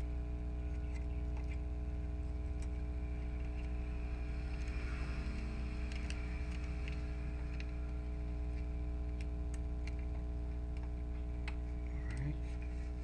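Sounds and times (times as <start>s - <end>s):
steady low hum with tones: 0.0s - 13.0s.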